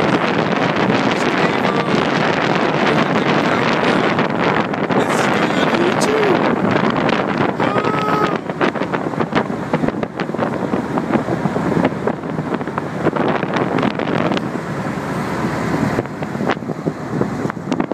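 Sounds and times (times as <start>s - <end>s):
water splashing against hull: 0.0s - 17.9s
wind buffeting microphone: 0.0s - 17.9s.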